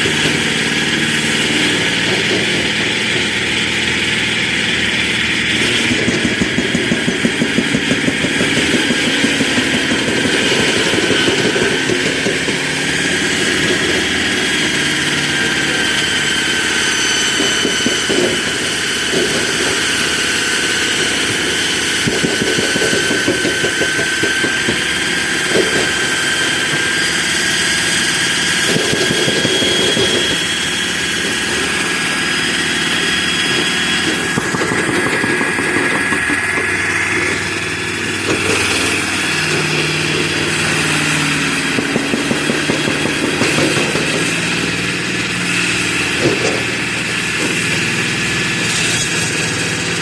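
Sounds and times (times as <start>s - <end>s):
high whine: 0.0s - 47.6s
concrete cutter engine running: 0.0s - 50.0s.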